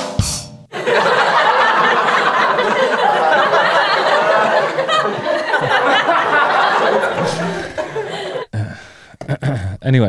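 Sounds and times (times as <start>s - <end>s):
laughter: 0.7s - 8.5s, 9.2s - 9.7s.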